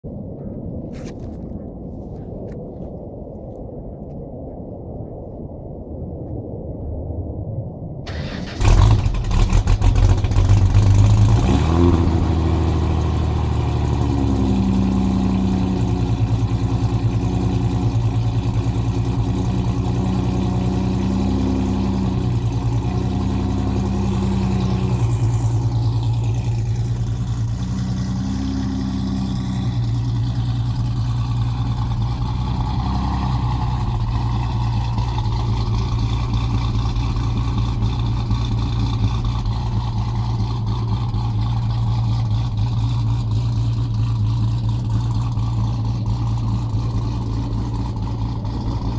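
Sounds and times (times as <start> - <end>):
car engine starting and idling: 8.1 - 48.9
high whine: 8.4 - 48.9.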